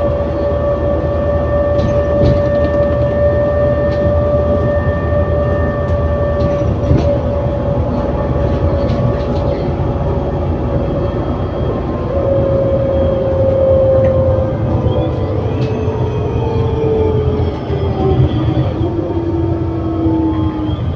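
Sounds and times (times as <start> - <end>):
bus drivetrain rumble and whine: 0.0 - 20.9.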